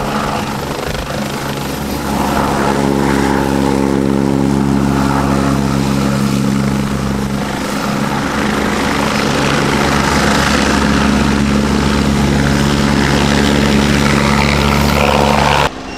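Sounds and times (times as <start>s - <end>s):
helicopter rotor and engines: 0.0s - 15.9s.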